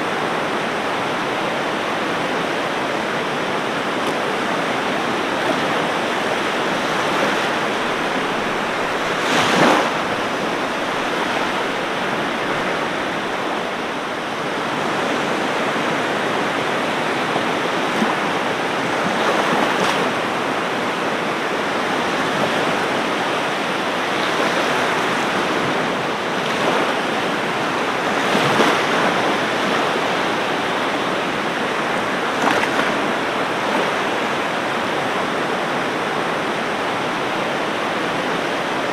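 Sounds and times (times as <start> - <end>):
waves breaking: 0.0 - 38.9
waves washing on beach: 0.0 - 38.9.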